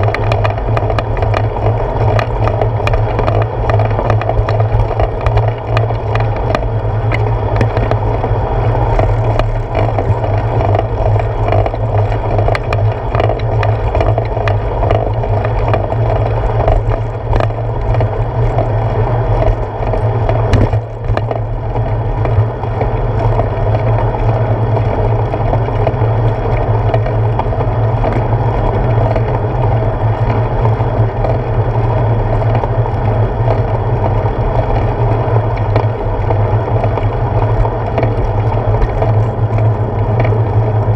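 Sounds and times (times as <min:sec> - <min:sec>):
bicycle clicks and rattles: 0:00.0 - 0:40.9
bicycle tyre rumble on pavement: 0:00.0 - 0:40.9.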